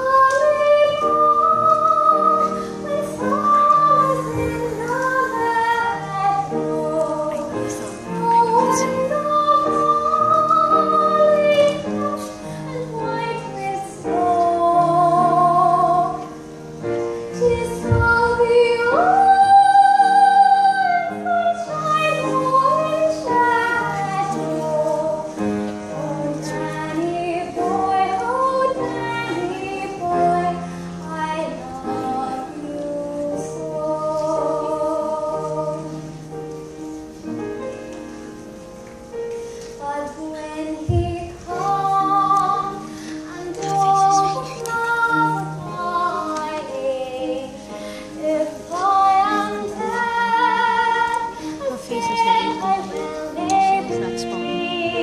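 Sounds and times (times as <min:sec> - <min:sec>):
girl singing: 0:00.0 - 0:16.4, 0:17.3 - 0:36.1, 0:39.7 - 0:55.0.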